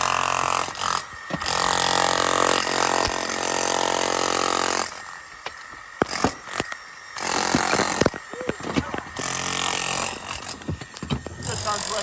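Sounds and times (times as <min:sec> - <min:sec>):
demolition hammer chiseling brickwork: 0:00.0 - 0:12.0.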